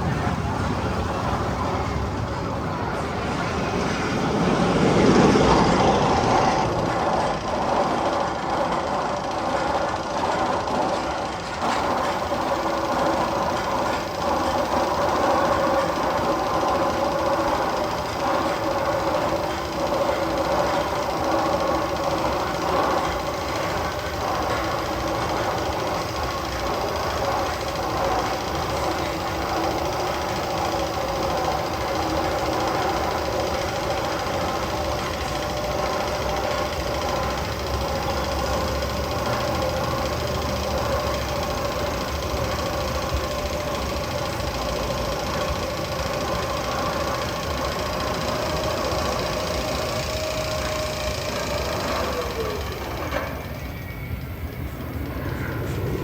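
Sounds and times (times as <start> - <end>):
machine-like rumble with drone: 0.0 - 56.0.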